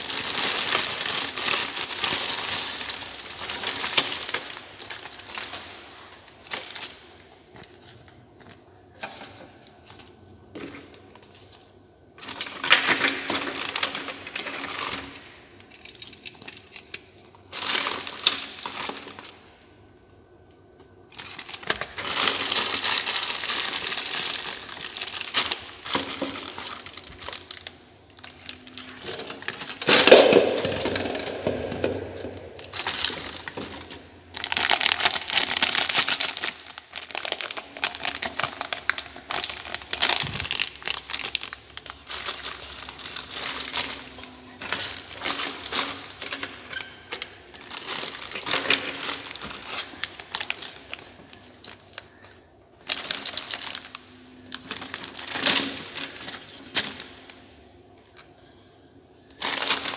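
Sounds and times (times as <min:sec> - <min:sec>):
plastic packaging crinkling: 0:00.0 - 0:58.3, 0:59.3 - 0:59.9.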